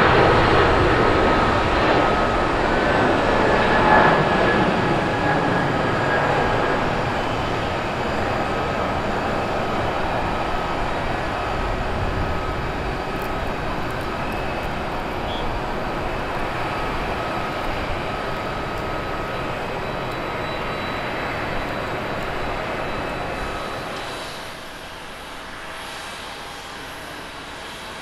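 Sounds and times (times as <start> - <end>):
faint jet whine: 0.0 - 28.0
jet engines roaring: 0.0 - 28.0.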